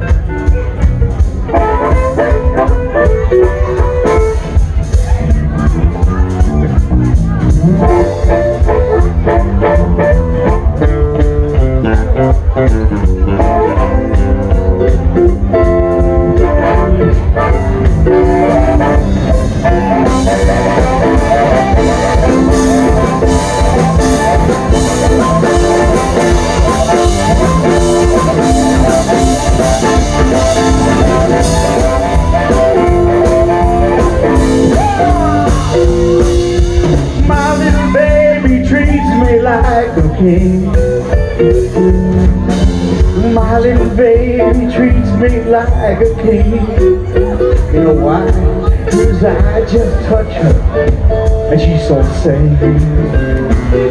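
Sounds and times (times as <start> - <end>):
live blues band playing: 0.0 - 53.9.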